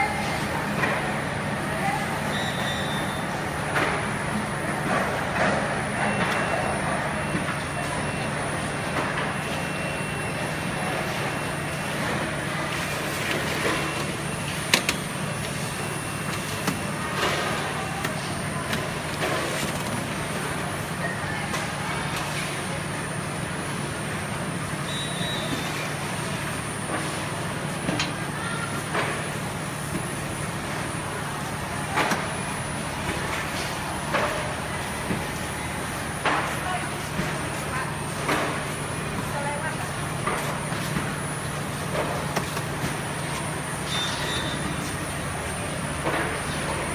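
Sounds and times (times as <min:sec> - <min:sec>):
oven machine hum and hiss: 0:00.0 - 0:46.9.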